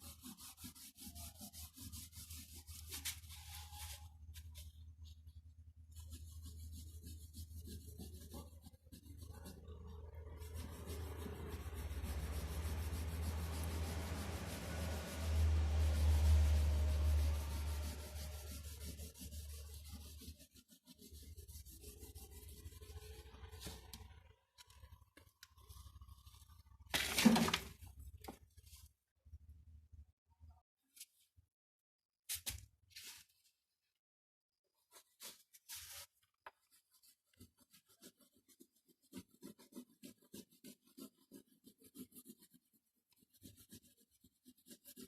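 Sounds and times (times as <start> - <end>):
drawing tool rubbing on paper: 0.0 - 26.8, 34.9 - 45.0.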